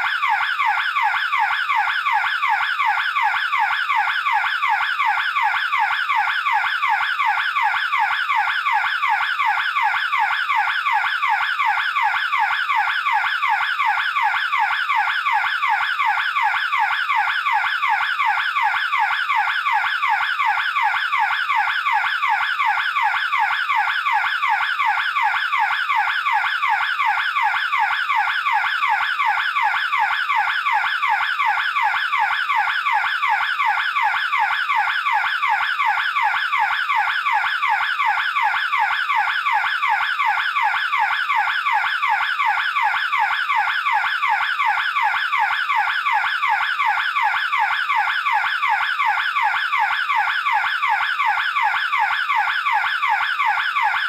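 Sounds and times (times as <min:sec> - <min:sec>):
burglar alarm siren sweeping: 0:00.0 - 0:54.0.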